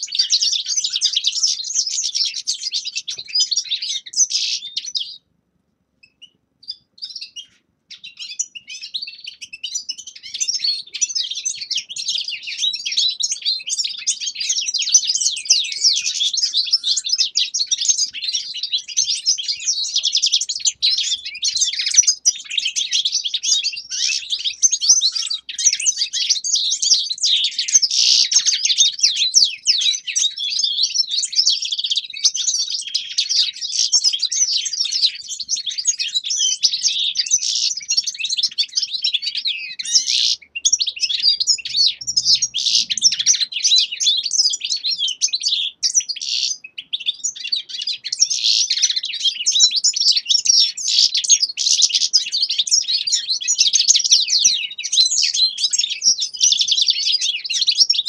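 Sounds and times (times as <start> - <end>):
finches singing: 0.0 - 5.3, 6.0 - 58.0.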